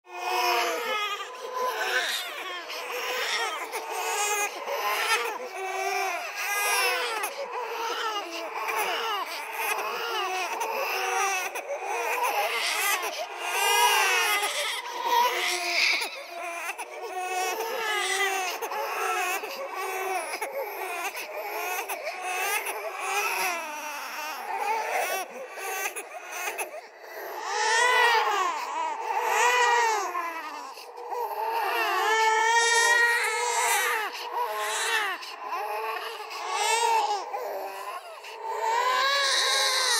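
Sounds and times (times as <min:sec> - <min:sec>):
babies crying: 0:00.1 - 0:39.9.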